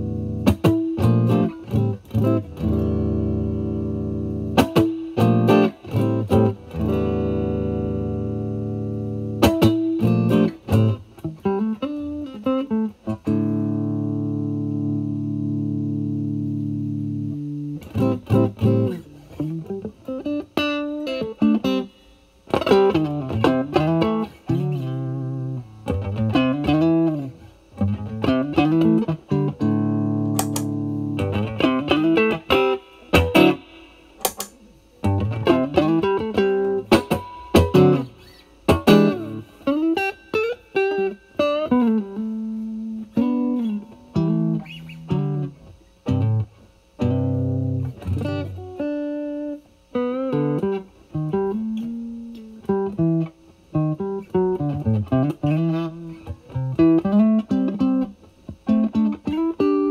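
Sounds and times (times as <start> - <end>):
overdriven electric guitar lead: 0.0 - 59.9.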